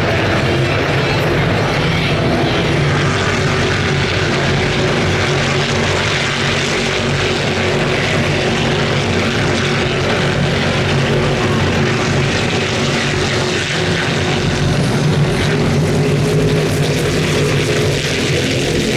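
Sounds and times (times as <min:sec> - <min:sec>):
race car engines droning: 0:00.0 - 0:18.9.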